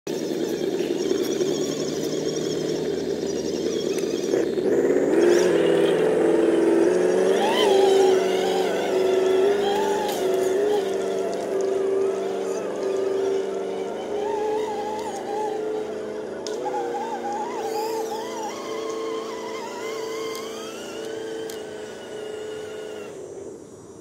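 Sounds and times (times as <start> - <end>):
electric motors whining: 0.1 - 23.7.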